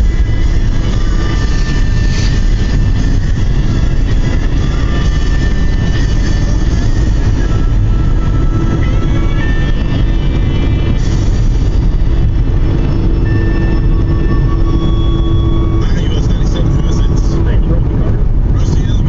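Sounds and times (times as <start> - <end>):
car driving rumble inside cabin: 0.0 - 19.0.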